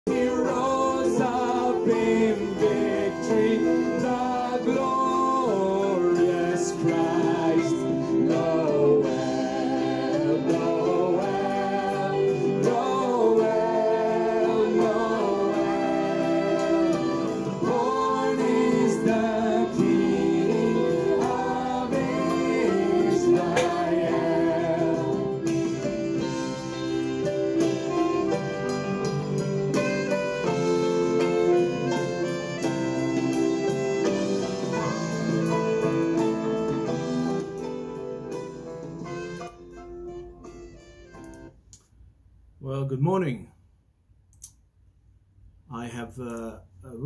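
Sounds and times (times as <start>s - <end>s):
voices singing gospel song: 0.1s - 37.8s
sustained instrumental chords: 0.1s - 41.7s.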